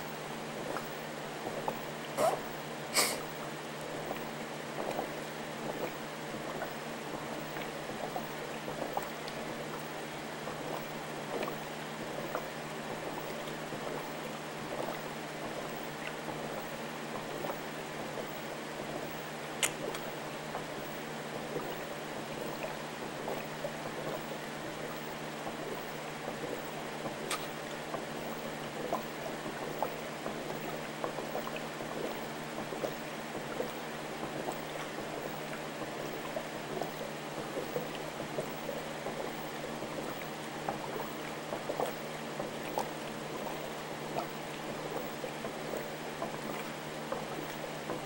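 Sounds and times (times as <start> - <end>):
aquarium water bubbling: 0.0 - 48.0
small water plops: 3.4 - 18.4, 19.6 - 48.0.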